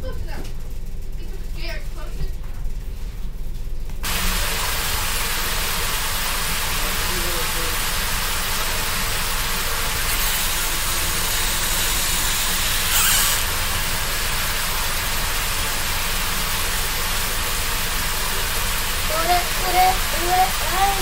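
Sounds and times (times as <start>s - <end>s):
tap water filling a bath: 4.0s - 21.0s.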